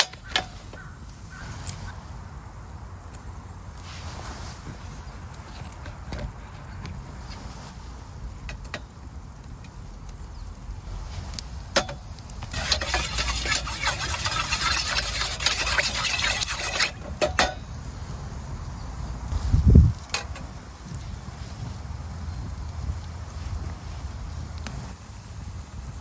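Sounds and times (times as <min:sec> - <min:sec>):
dense crackling hiss: 0:00.0 - 0:26.0.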